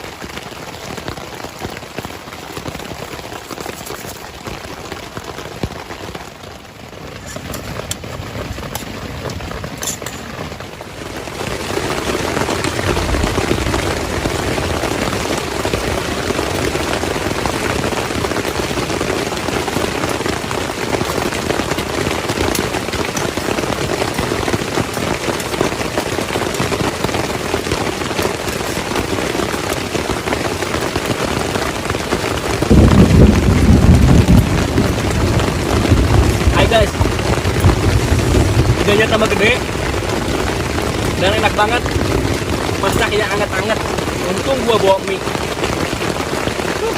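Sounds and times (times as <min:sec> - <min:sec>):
rain on a tent: 0:00.0 - 0:46.9.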